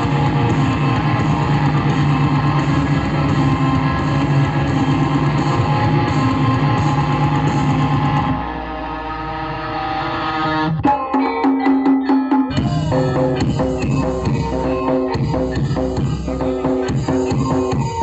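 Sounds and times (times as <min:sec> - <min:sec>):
loud music with heavy bass: 0:00.0 - 0:18.0.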